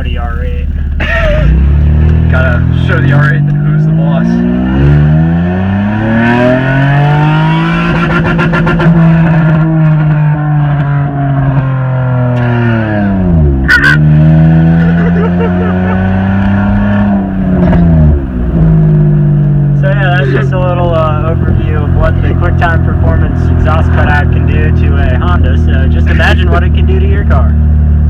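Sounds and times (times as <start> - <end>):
car engine accelerating: 0.0 - 28.0
exhaust pop: 0.0 - 28.0.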